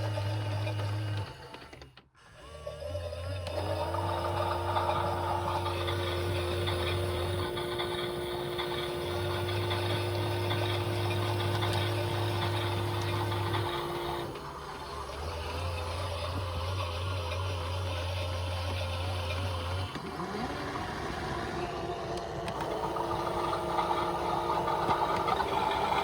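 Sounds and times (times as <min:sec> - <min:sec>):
small motor humming: 0:00.0 - 0:26.0.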